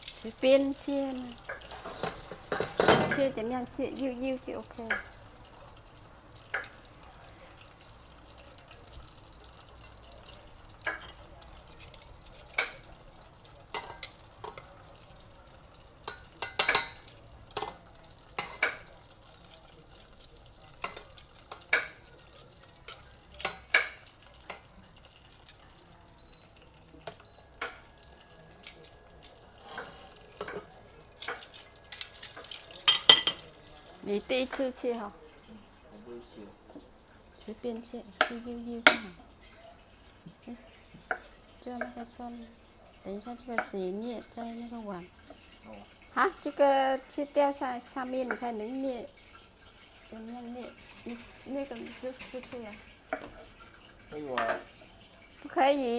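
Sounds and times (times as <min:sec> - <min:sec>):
faint steady hiss: 0:00.0 - 0:55.9.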